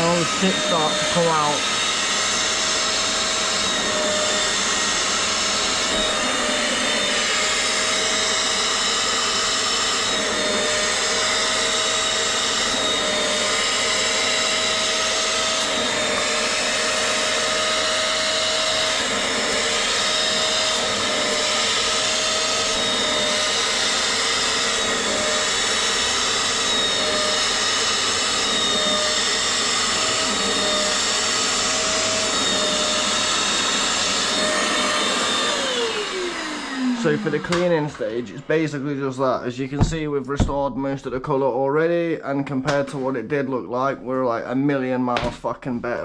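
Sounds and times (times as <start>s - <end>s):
wet vacuum motor whining: 0.0s - 40.8s.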